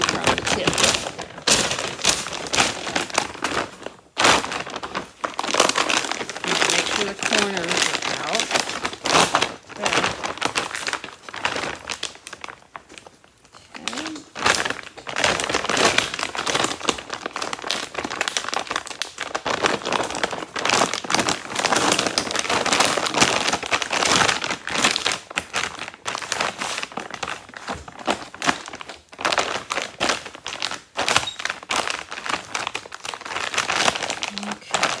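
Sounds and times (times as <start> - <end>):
plastic sack crinkling: 0.0 - 35.0.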